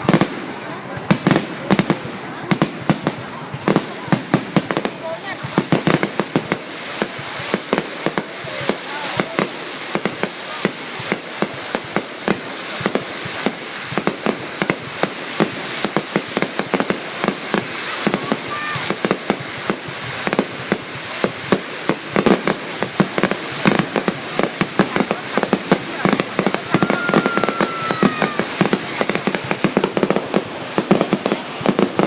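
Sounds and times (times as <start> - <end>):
fireworks bangs: 0.0 - 32.0
fireworks crackling hiss: 0.0 - 32.0.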